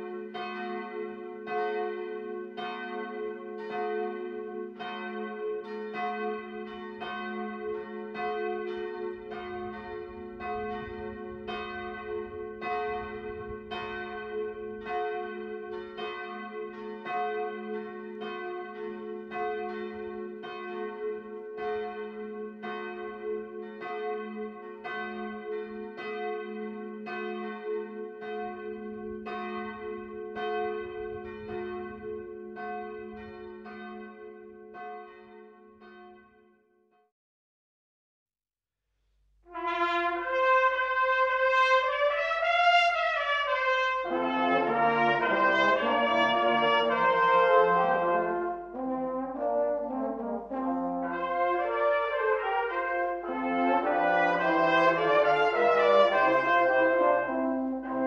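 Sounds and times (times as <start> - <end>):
church bells ringing: 0.0 - 36.6, 39.7 - 58.0.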